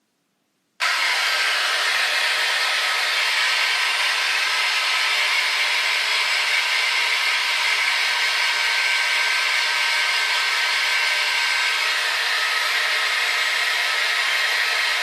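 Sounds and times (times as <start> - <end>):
hair dryer running: 0.8 - 15.0.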